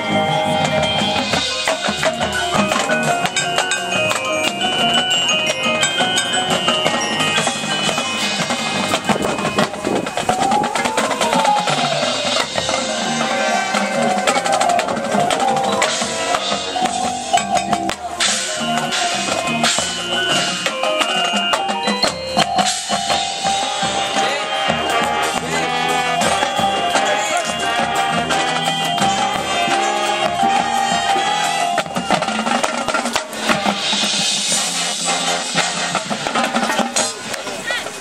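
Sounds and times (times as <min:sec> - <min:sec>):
drums beating: 0:00.0 - 0:38.0
marimbas and bells: 0:00.0 - 0:38.0
wind instruments playing: 0:00.0 - 0:38.0.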